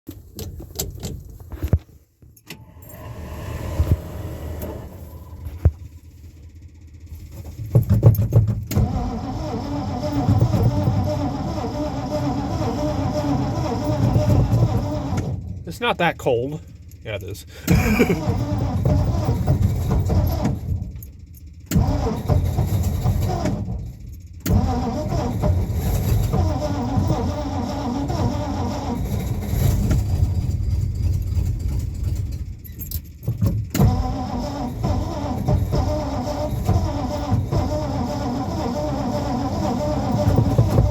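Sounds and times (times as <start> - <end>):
car starter cranking: 2.4 - 40.9
car engine running: 2.6 - 40.9.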